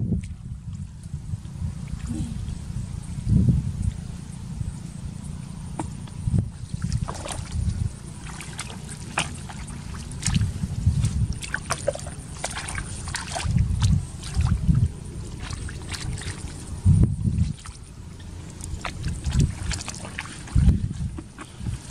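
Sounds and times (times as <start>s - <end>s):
splashing in shallow muddy water: 0.0s - 2.7s, 5.4s - 21.9s
low microphone rumbles: 0.0s - 21.9s.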